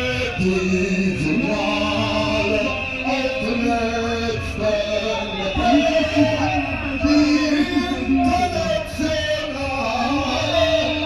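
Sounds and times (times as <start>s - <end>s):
man singing through loudspeaker: 0.0s - 11.0s
musical backing: 0.0s - 11.0s.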